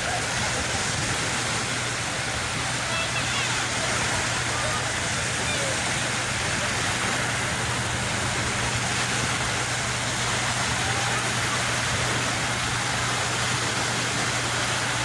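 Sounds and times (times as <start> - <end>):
sea waves and surf: 0.0 - 15.0.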